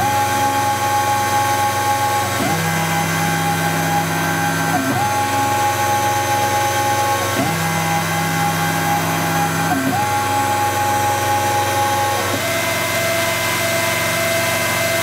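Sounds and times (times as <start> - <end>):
axis motors whining: 0.0 - 15.0
mill spindle cutting wax: 0.0 - 15.0.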